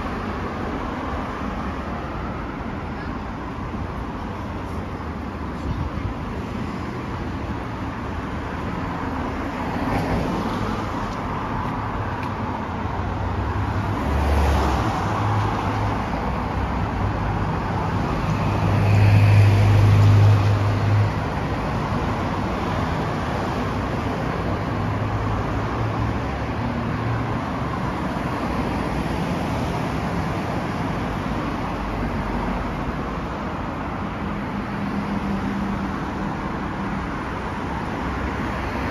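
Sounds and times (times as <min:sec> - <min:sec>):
cars passing by: 0:00.0 - 0:38.9.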